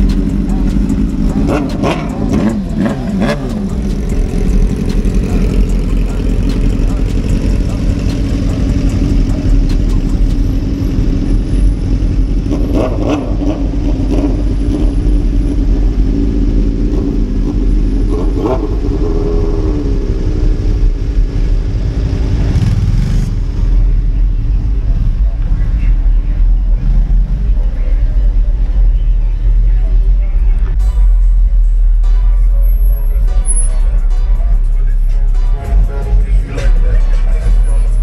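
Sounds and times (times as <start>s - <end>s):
motorcycle engines idling and revving: 0.0s - 38.0s.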